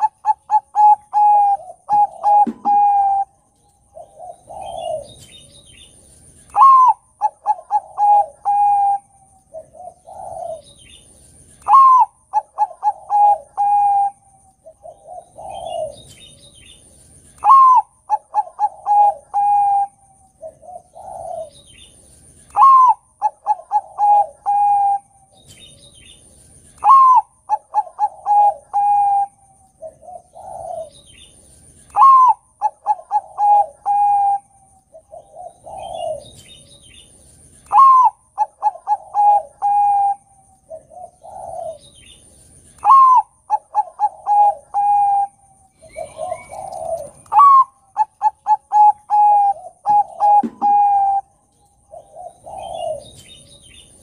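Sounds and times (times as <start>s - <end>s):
dove cooing song: 0.0s - 54.0s.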